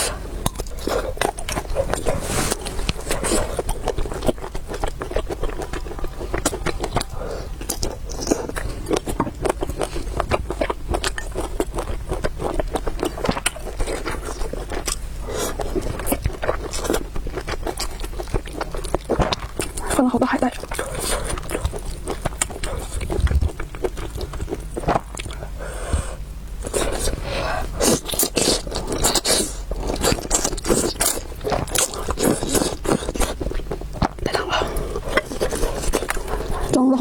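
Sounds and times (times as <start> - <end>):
chewing and biting food: 0.0 - 36.9.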